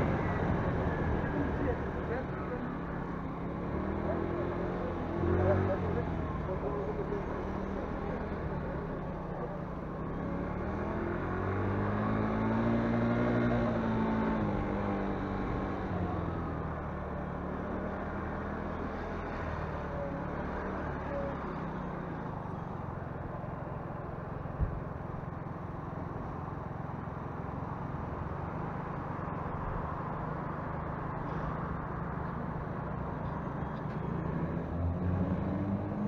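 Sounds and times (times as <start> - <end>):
wind and road noise: 0.0 - 36.0.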